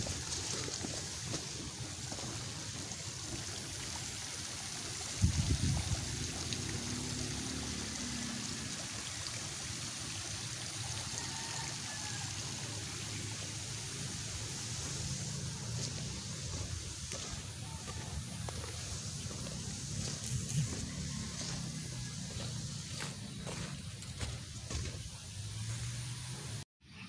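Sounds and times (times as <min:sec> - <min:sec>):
rushing outdoor noise: 0:00.0 - 0:26.6.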